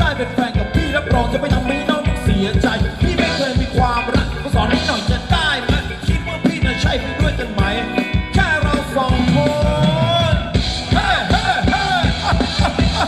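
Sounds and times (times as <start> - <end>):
live band playing dance music: 0.0 - 13.0
person singing: 0.0 - 13.0
steady drum beat: 0.0 - 13.0.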